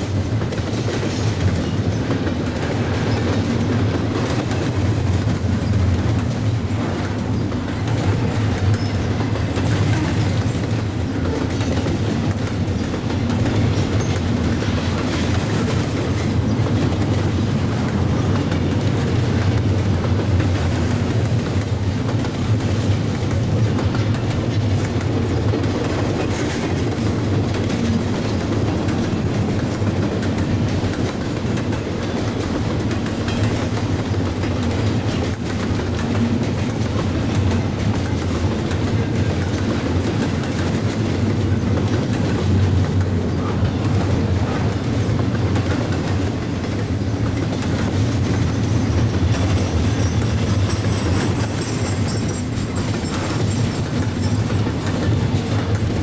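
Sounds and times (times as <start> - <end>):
train cars rumbling past: 0.0 - 56.0
wheels clicking over rail joints: 0.0 - 56.0.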